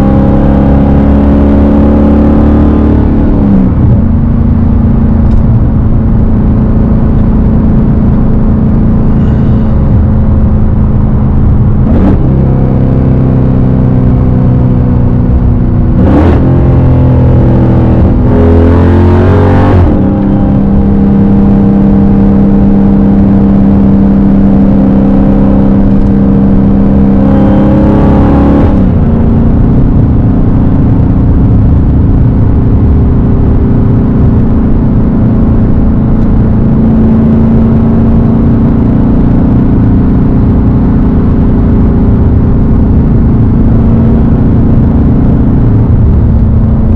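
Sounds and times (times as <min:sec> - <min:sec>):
car engine droning: 0:00.0 - 0:46.9.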